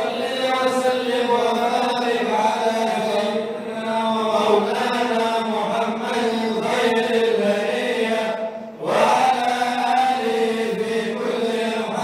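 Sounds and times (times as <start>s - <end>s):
men chanting melodic recitation: 0.0s - 12.0s.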